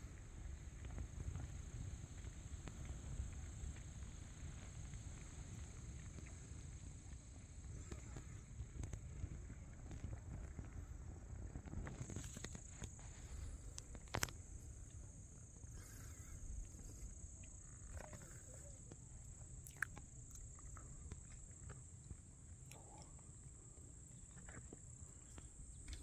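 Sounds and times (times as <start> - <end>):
wind buffeting microphone: 0.0 - 21.2.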